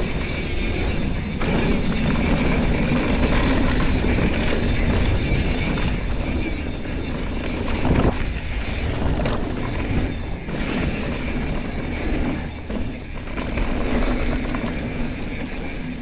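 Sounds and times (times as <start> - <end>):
bike rattling over bumps: 0.0 - 16.0
tyres rushing on dirt: 0.0 - 16.0
wind on microphone: 0.0 - 16.0.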